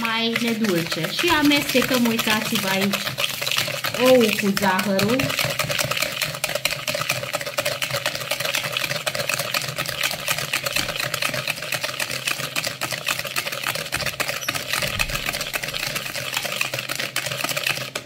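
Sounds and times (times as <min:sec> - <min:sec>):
whisk beating in plastic bowl: 0:00.0 - 0:18.0.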